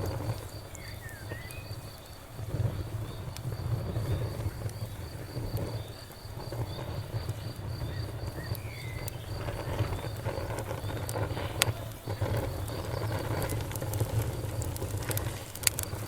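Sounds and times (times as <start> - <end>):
campfire burning and crackling: 0.0 - 16.0
cricket chirping: 0.0 - 16.0.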